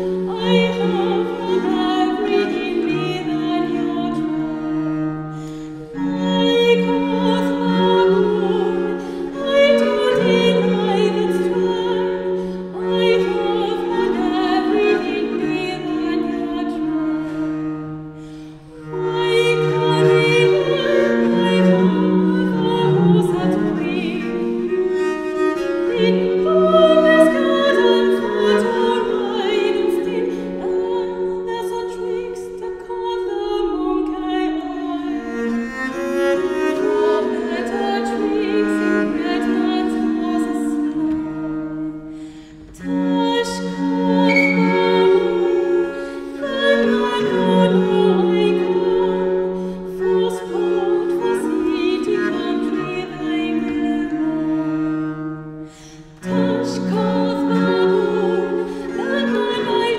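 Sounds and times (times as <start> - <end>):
bowed bass viol notes: 0.0 - 59.9
soprano singing: 0.0 - 59.9.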